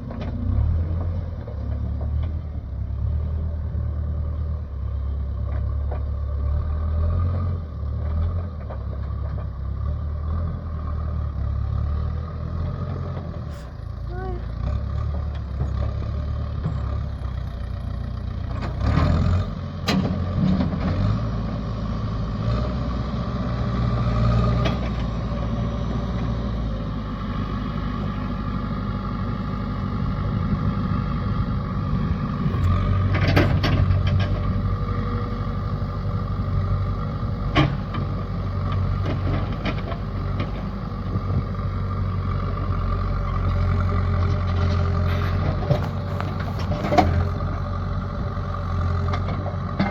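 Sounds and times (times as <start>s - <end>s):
heavy vehicle engine running: 0.0s - 49.9s.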